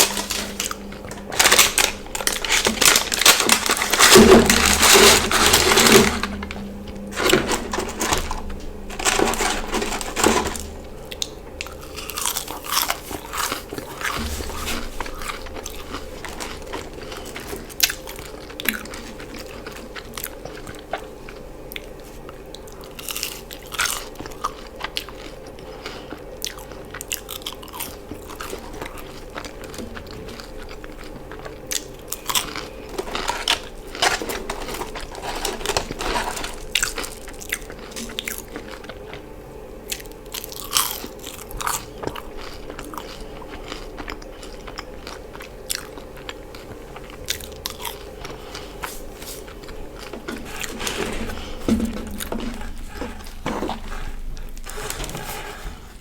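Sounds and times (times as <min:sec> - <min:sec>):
crunchy biting and chewing: 0:00.0 - 0:39.3, 0:39.9 - 0:55.1
faint steady hum: 0:00.0 - 0:56.0.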